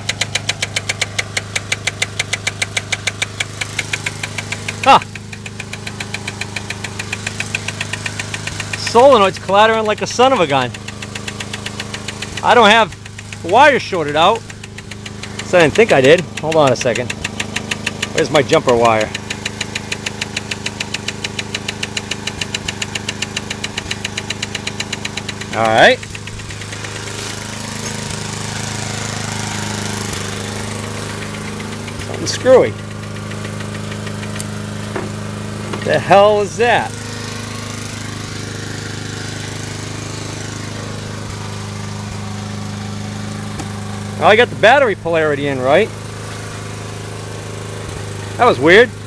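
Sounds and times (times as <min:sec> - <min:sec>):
small generator engine humming: 0:00.0 - 0:49.0
starter solenoid clicking rapidly: 0:00.0 - 0:49.0.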